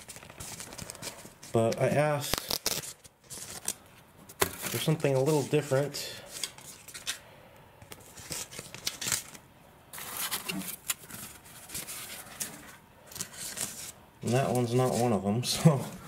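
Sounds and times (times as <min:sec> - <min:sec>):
plastic packing rustling: 0:00.0 - 0:07.2, 0:08.0 - 0:16.0.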